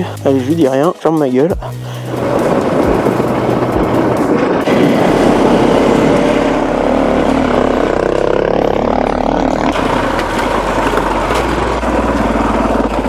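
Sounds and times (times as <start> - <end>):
motorcycle engine revving: 1.8 - 13.0.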